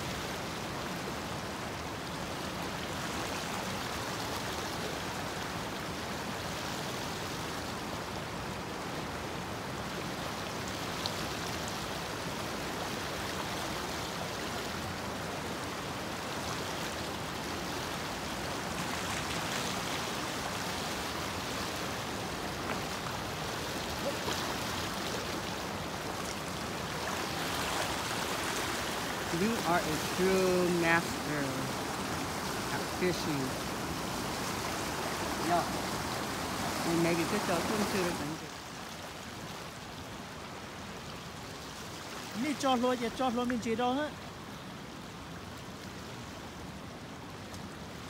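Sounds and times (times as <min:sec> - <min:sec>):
stream running over gravel: 0:00.0 - 0:48.0.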